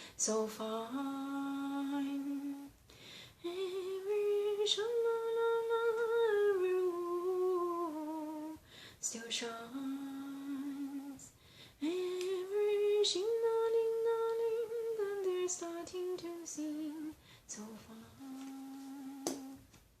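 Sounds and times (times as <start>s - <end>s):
woman singing unaccompanied: 0.0s - 2.8s, 3.4s - 19.7s.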